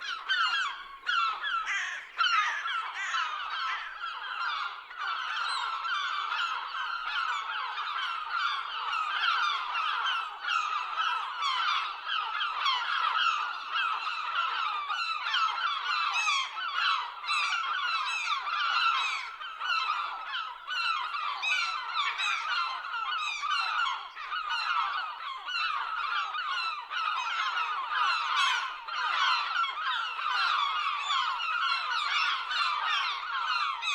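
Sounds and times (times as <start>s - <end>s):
seagulls calling: 0.0s - 33.9s.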